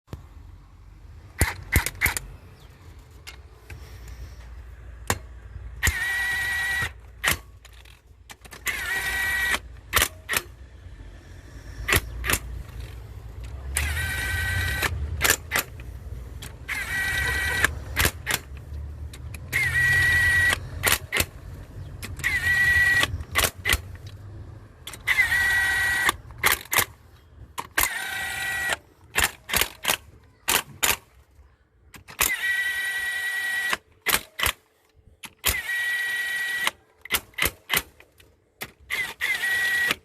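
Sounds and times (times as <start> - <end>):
sharp clicks: 1.2 - 4.2, 5.0 - 10.6, 11.8 - 31.2, 31.9 - 40.0.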